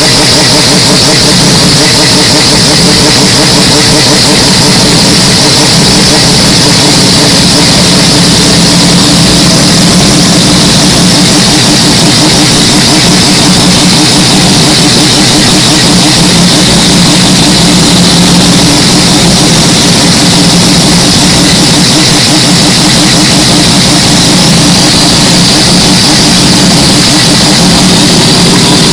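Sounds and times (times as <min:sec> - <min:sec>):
rotary engine running: 0:00.0 - 0:28.9.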